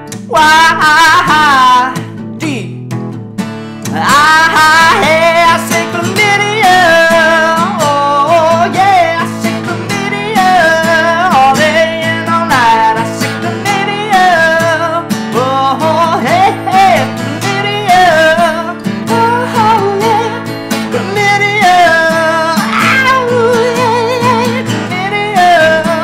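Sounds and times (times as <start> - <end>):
strummed acoustic guitar: 0.0 - 26.0
man singing: 0.1 - 2.8, 3.8 - 26.0.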